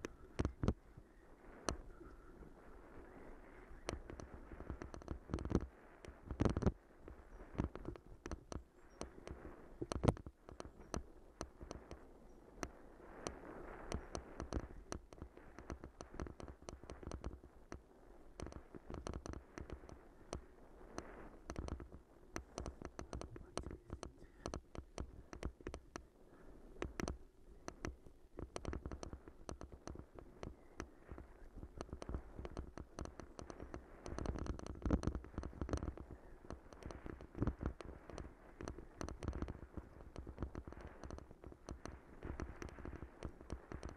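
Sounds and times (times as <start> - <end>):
bicycle rattling on rough trail: 2.2 - 43.9.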